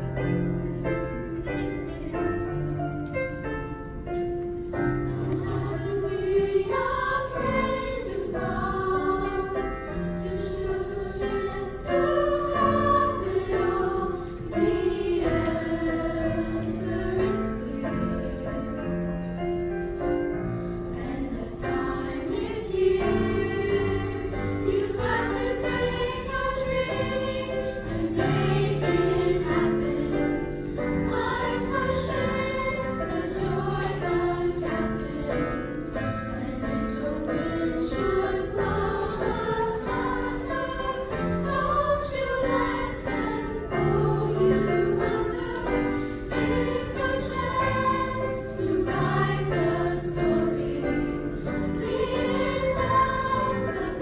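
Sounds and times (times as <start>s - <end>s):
choir singing in parts: 4.4s - 54.0s.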